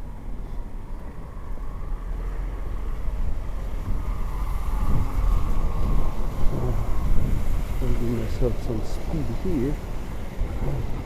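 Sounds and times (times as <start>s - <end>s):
street traffic: 0.0s - 11.0s
vehicle approaching: 0.0s - 11.0s
wind rumbling on microphone: 0.0s - 11.0s.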